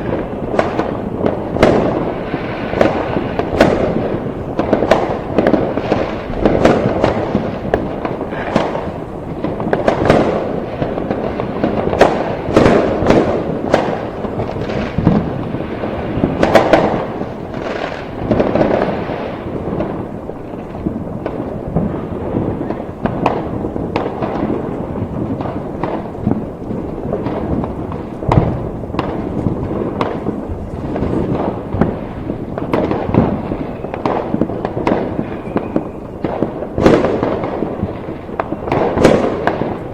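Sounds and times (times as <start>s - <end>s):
fireworks cracks and bangs: 0.0s - 39.9s.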